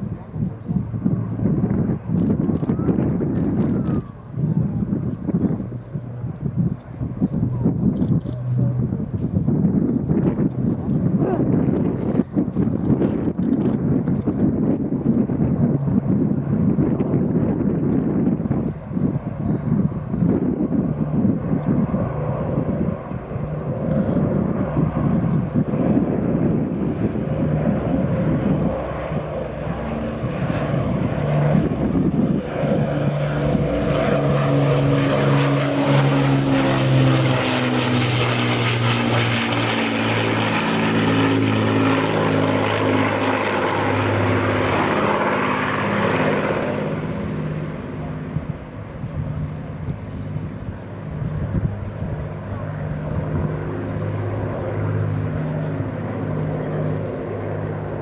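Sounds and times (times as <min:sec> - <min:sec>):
propeller plane engines passing: 0:00.0 - 0:58.0.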